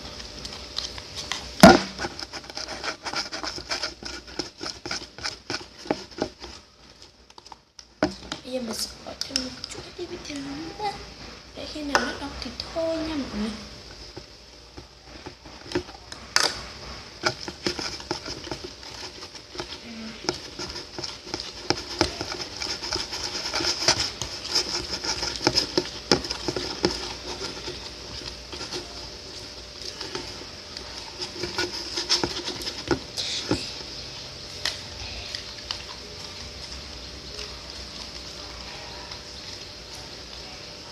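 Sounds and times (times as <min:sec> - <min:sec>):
utensil scraping slime: 0:00.0 - 0:40.0.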